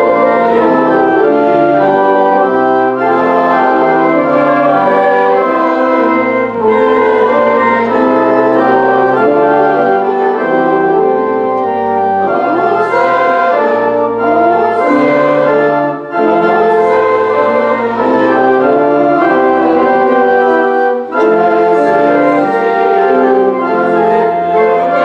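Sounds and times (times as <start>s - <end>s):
people singing: 0.0s - 11.2s, 12.2s - 25.0s
organ playing a hymn: 0.0s - 25.0s.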